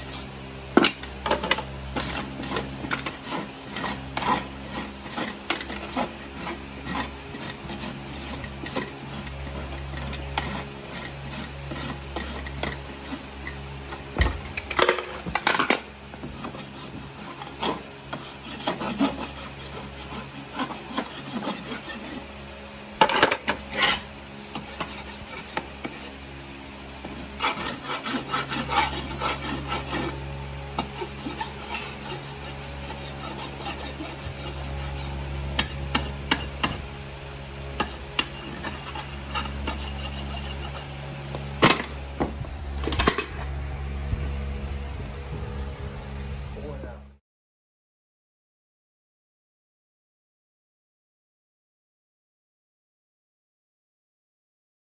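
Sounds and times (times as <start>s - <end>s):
hoof rasp filing hoof: 0.0s - 44.6s.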